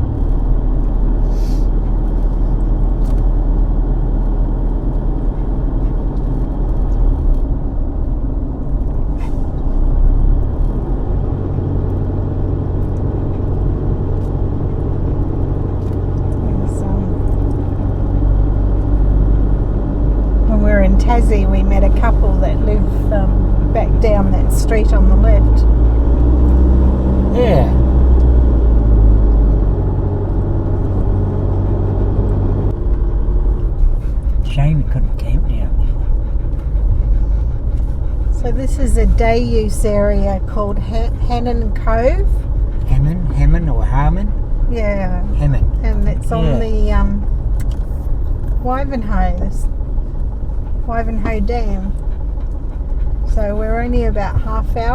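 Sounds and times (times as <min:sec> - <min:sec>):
car engine and tyre rumble: 0:00.0 - 0:54.9
low engine hum: 0:00.0 - 0:54.9.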